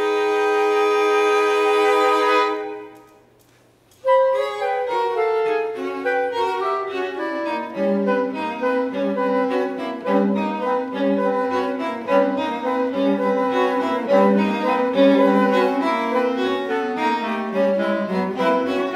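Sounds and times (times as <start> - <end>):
chamber quartet playing: 0.0 - 3.3, 4.0 - 18.9.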